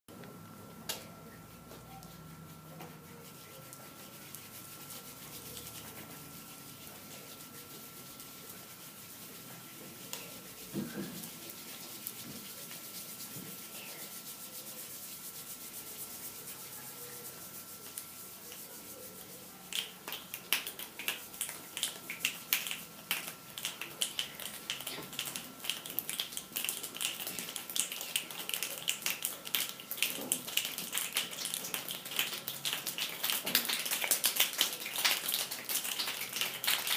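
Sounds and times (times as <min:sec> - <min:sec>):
palms rubbing together: 0:01.5 - 0:36.9.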